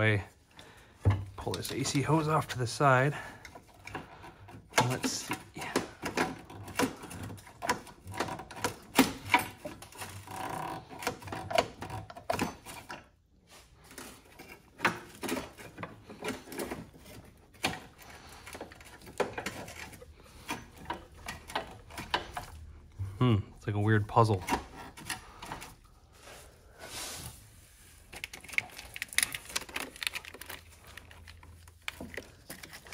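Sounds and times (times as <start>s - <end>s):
metal and plastic parts rattling: 1.1s - 13.2s, 13.8s - 22.9s, 23.7s - 25.9s, 28.0s - 32.9s.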